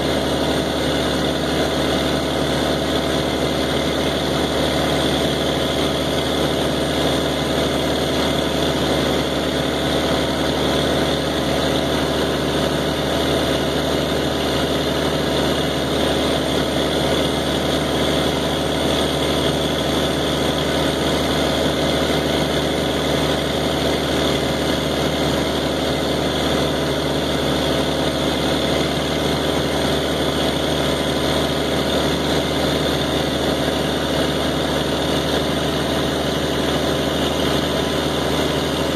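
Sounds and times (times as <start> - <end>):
engine driving a pump: 0.0 - 38.9.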